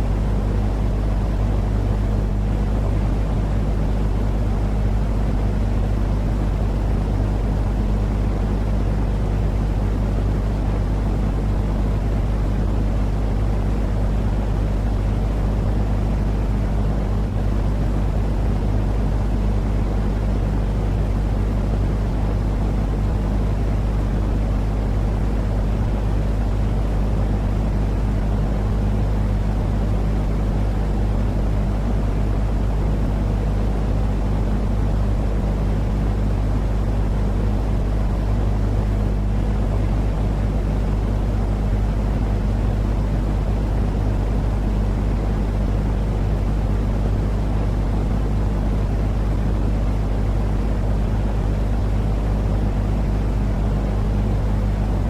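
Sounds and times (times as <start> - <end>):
constant low hum: 0.0 - 55.0
low droning white noise: 0.0 - 55.0.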